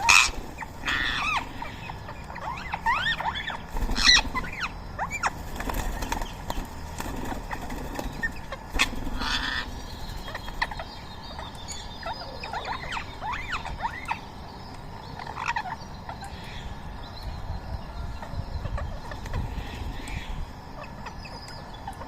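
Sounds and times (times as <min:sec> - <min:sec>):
parakeets chirping: 0:00.0 - 0:22.0
parakeets screeching: 0:00.0 - 0:22.0.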